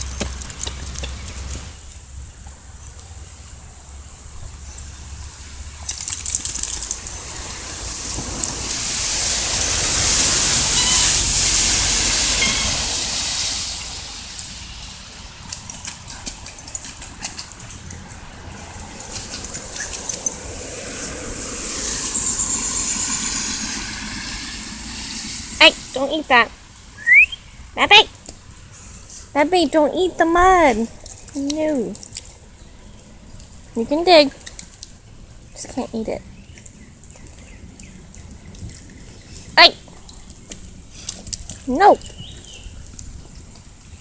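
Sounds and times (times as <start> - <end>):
drips and splashes: 0.0 - 25.9, 30.0 - 44.0
rain hissing: 0.0 - 44.0.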